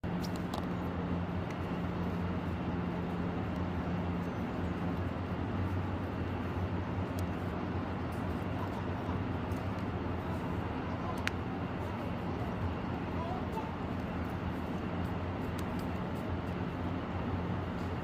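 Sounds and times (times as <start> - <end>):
street noise with engine hum: 0.0 - 18.0.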